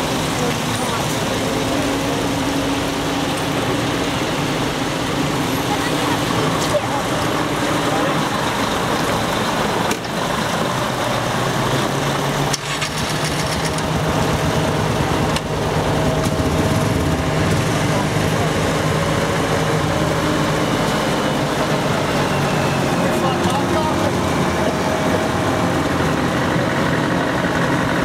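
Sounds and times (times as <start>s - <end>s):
trucks driving past: 0.0s - 28.0s.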